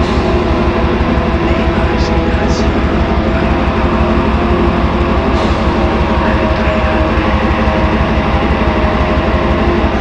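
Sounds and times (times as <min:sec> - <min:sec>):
distorted black metal music: 0:00.0 - 0:10.0.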